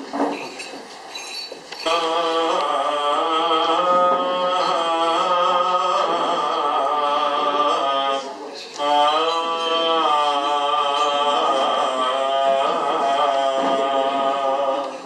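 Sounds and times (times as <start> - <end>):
man chanting slow held notes: 1.8 - 15.0.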